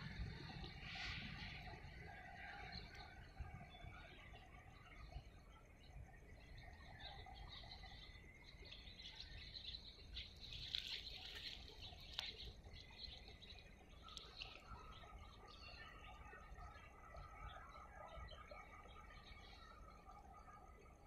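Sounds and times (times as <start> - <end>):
low outdoor rumble: 0.0 - 17.8
faint birds chirping: 0.0 - 21.0.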